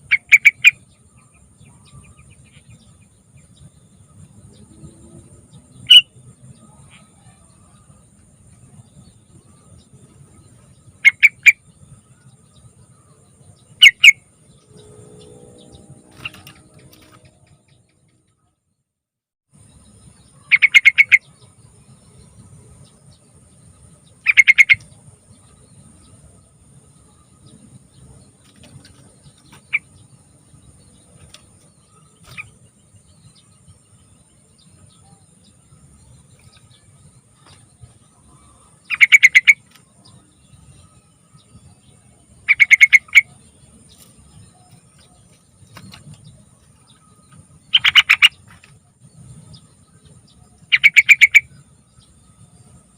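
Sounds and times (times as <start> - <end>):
bulbul chattering calls: 0.0 - 3.7, 5.5 - 8.0, 10.8 - 17.8, 19.7 - 52.8.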